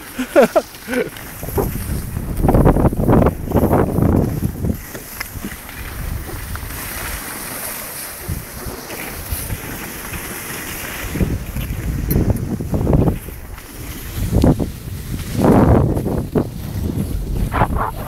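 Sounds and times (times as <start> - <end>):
wind buffeting microphone: 0.0 - 7.3, 8.2 - 18.0
skis sliding over packed snow: 0.0 - 18.0.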